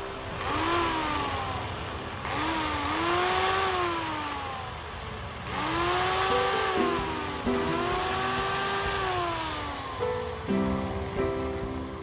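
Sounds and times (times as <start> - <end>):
electric chainsaw motor spinning: 0.0 - 11.2.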